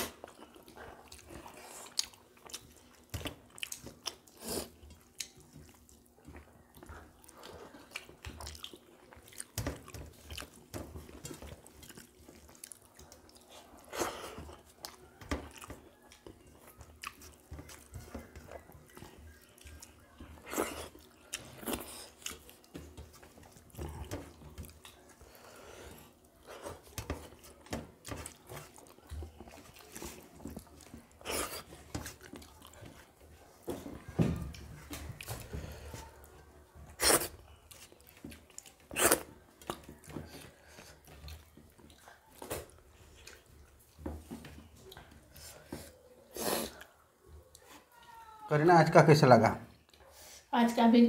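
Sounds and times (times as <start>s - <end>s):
chewing and lip-smacking: 0.0s - 45.9s.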